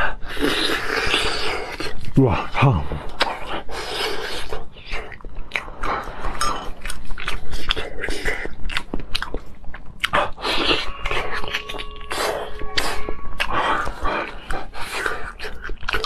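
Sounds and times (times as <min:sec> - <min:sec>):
wet chewing and mouth smacks: 0:00.4 - 0:02.2, 0:03.1 - 0:16.0.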